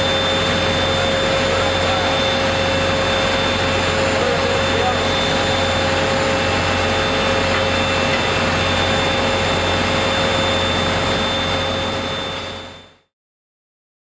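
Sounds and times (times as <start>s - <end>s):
low hum: 0.0s - 13.0s
factory machinery roar: 0.0s - 13.1s.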